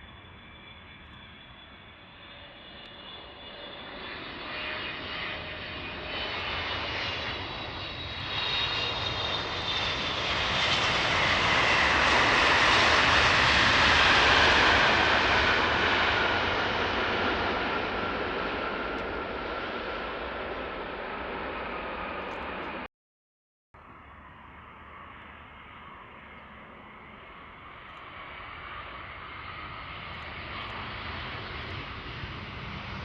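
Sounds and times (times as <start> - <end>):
jet airliner engines whining: 0.0 - 22.9, 23.8 - 33.0.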